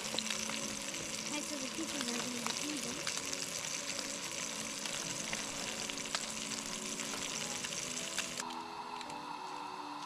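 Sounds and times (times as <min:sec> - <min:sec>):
food sizzling in a skillet: 0:00.0 - 0:08.4.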